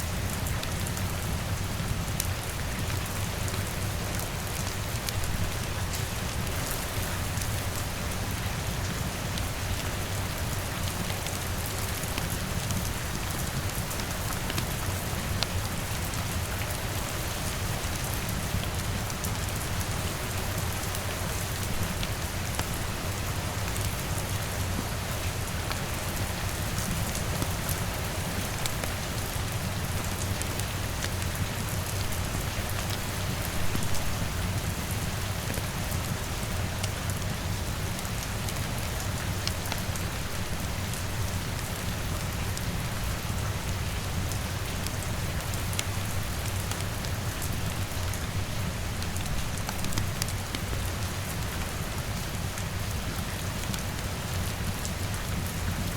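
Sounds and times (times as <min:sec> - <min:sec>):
rain on a window: 0:00.0 - 0:55.9.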